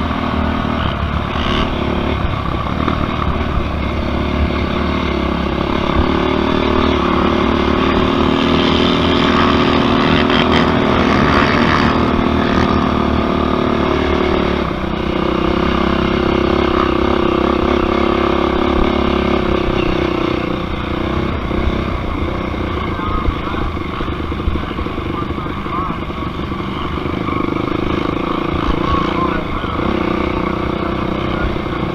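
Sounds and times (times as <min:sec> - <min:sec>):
quad engine revving high: 0:00.0 - 0:31.9.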